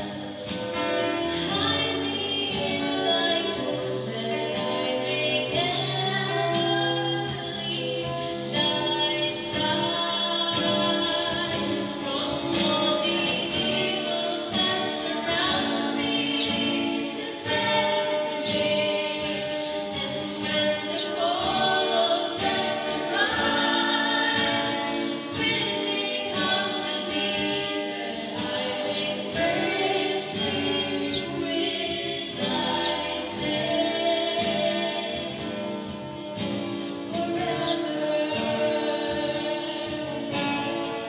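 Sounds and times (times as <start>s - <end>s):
choir singing: 0.0s - 41.0s.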